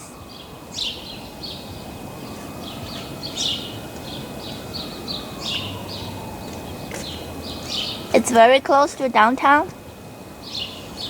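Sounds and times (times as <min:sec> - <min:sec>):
distant traffic: 0:00.0 - 0:11.0
small birds chirping: 0:00.0 - 0:11.0.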